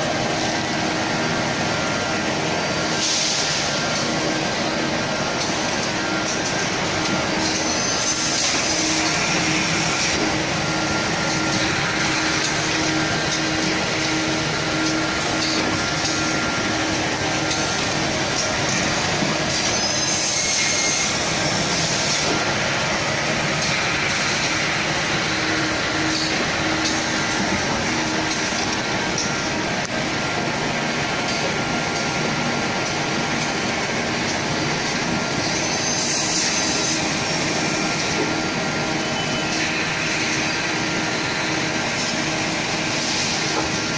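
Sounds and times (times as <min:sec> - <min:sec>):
packing machine running: 0:00.0 - 0:43.9.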